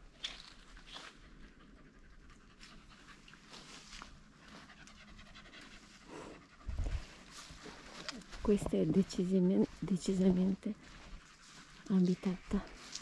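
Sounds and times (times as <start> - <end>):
dog panting: 0.6 - 13.0.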